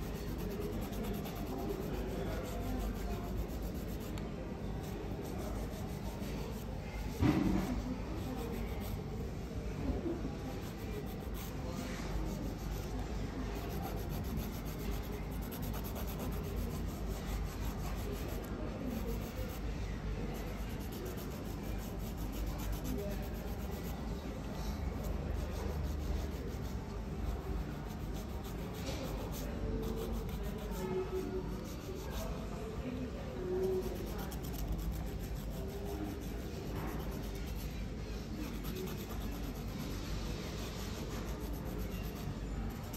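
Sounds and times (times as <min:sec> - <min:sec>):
nail file rubbing on nails: 0:00.0 - 0:09.0, 0:10.5 - 0:19.6, 0:20.4 - 0:32.5, 0:33.6 - 0:42.9.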